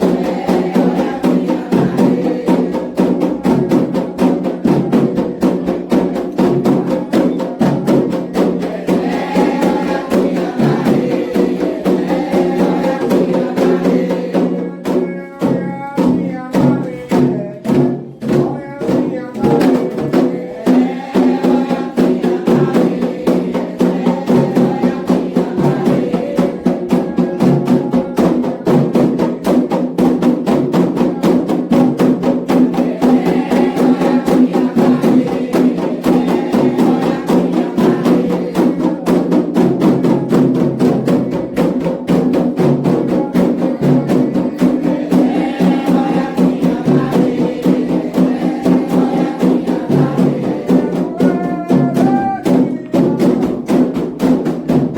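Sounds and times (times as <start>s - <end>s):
group of voices chanting: 0.0s - 15.0s, 16.6s - 28.9s, 32.5s - 53.8s
hand drums: 0.0s - 54.9s.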